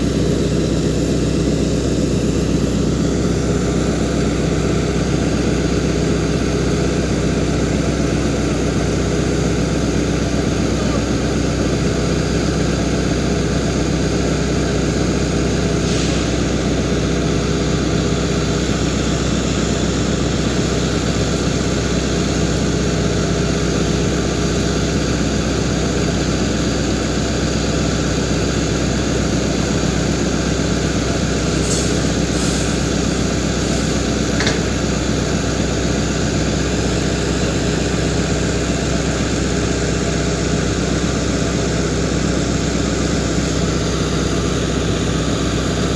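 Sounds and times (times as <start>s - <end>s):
excavator diesel engine idling: 0.0s - 45.9s.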